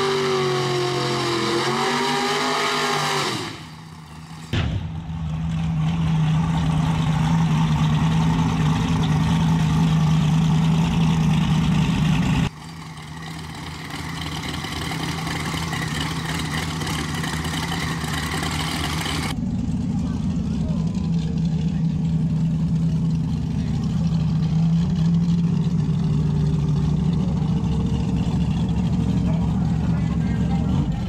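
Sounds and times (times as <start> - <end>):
race car engines idling: 3.7 - 31.0.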